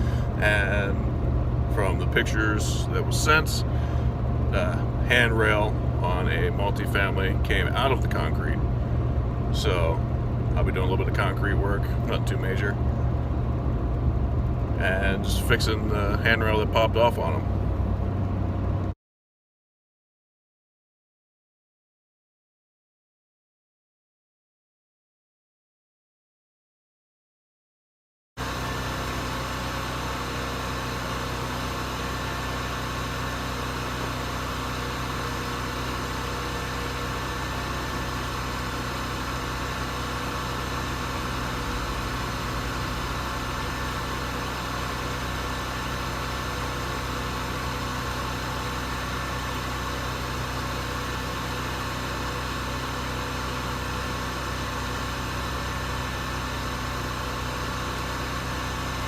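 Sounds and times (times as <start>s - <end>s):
engine humming: 0.0s - 18.9s, 28.4s - 59.0s.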